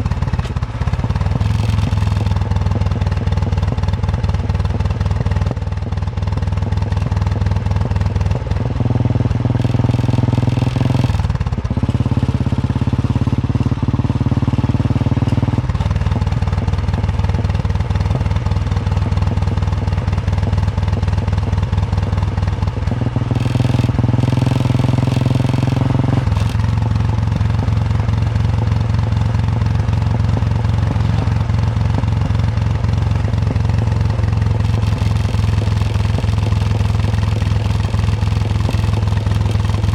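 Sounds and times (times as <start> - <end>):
motorcycle engine thumping: 0.0 - 39.9.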